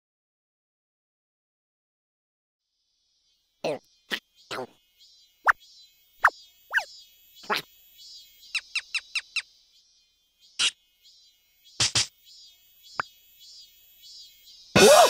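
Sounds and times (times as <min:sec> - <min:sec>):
insects chirring: 0:02.7 - 0:15.0.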